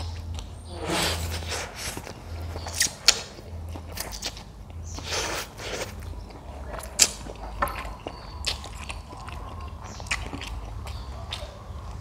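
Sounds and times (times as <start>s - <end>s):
person chewing noodles: 0.0s - 12.0s.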